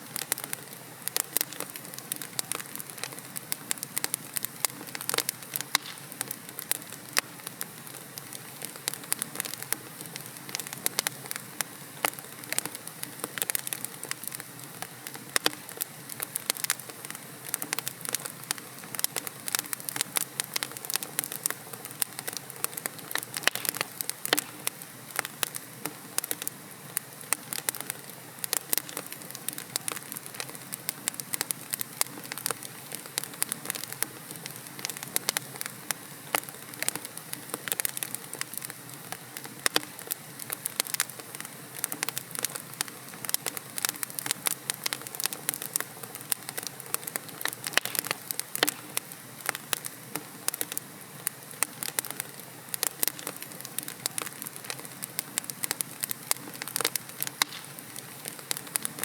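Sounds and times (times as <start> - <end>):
fire crackling and popping: 0.0 - 59.0
fire hissing: 0.0 - 59.0.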